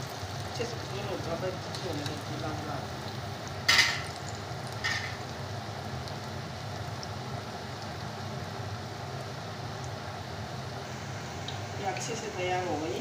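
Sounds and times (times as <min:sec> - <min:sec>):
fritters sizzling in hot oil: 0:00.0 - 0:13.0.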